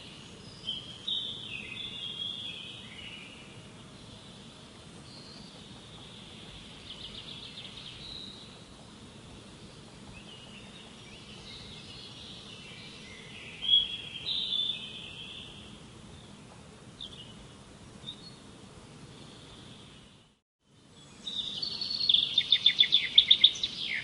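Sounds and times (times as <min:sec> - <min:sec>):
songbirds chirping and singing: 0:00.0 - 0:16.4, 0:17.0 - 0:24.0
steady background hiss: 0:00.0 - 0:24.0.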